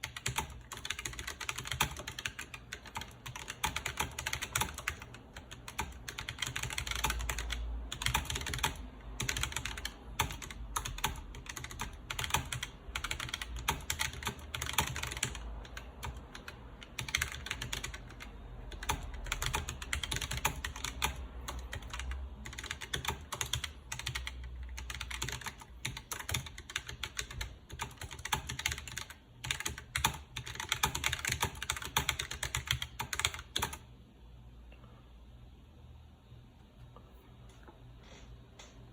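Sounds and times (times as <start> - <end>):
fast mechanical keyboard typing: 0.0 - 33.9.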